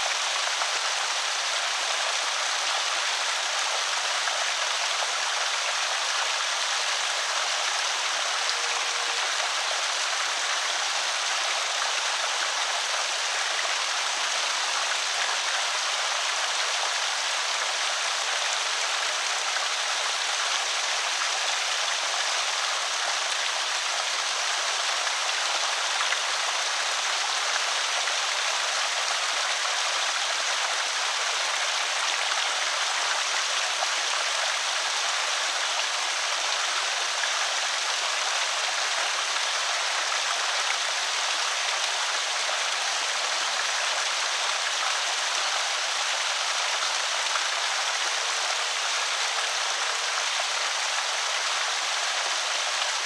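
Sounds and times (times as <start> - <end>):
water pouring over spillway: 0.0 - 53.0.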